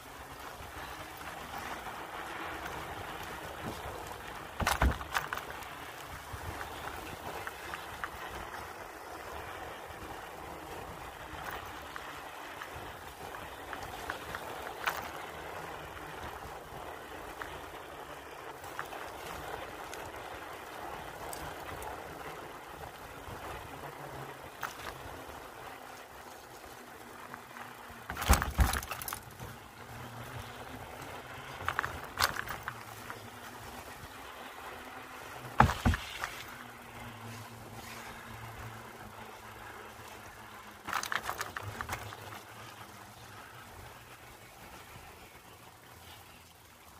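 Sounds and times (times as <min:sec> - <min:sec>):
bicycle tyres rolling on wooden boards: 0:00.0 - 0:46.9
wheels clattering over joints: 0:00.0 - 0:46.9.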